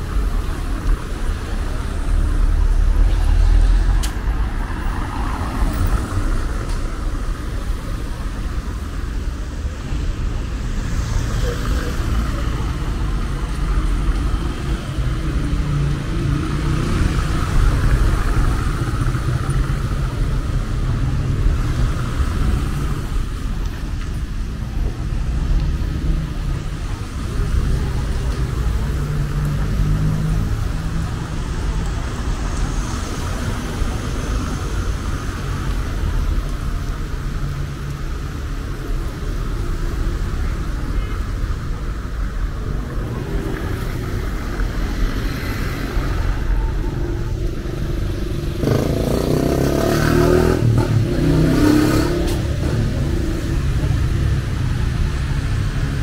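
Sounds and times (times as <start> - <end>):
passing car traffic: 0.0 - 56.0
people's voices: 0.0 - 56.0.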